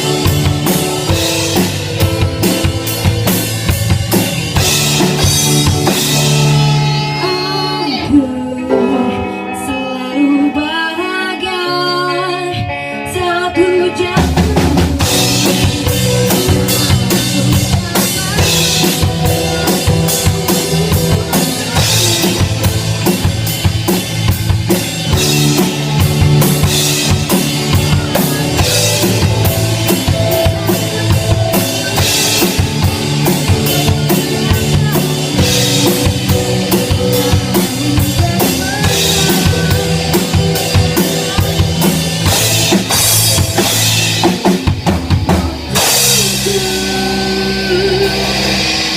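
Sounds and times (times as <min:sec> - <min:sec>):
loud rock music: 0:00.0 - 0:48.9.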